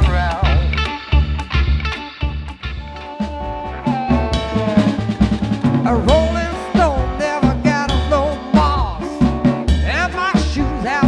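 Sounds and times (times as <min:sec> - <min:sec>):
blues band playing: 0:00.0 - 0:11.0.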